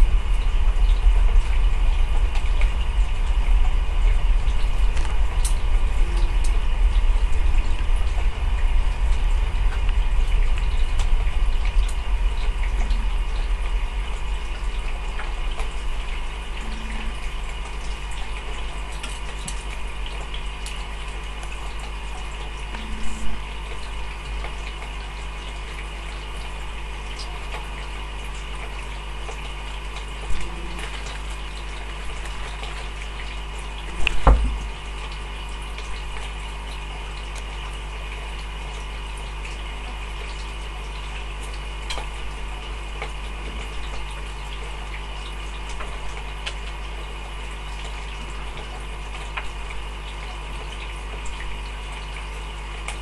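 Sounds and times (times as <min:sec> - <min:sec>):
aquarium filter humming: 0:00.0 - 0:53.0.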